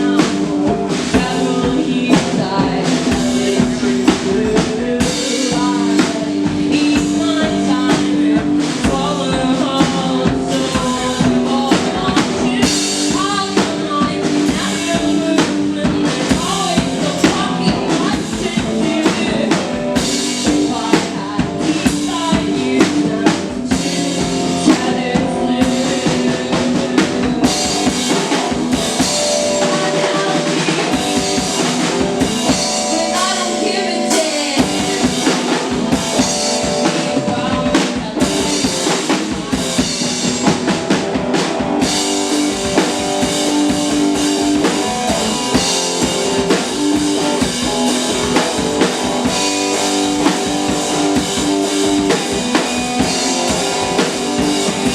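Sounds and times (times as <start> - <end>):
drum kit beat: 0.0 - 54.9.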